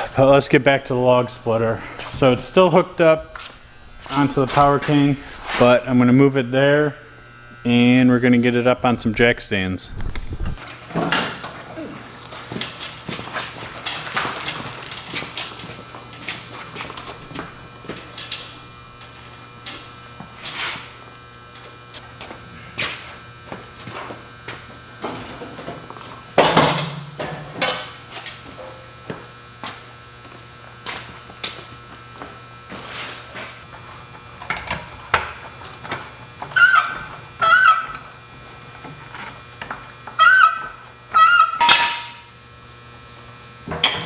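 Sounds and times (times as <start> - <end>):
steady electrical hum: 0.0 - 44.0.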